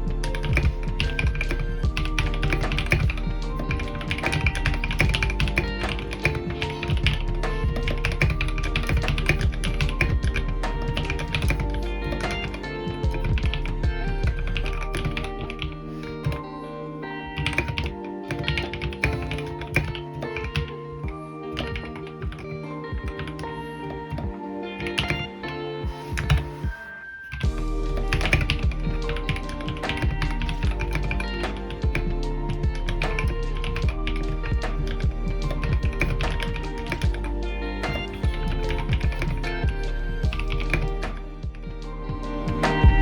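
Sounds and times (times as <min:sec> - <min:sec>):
mechanical keyboard typing: 0:00.0 - 0:16.4, 0:17.4 - 0:41.5
background music: 0:00.0 - 0:43.0.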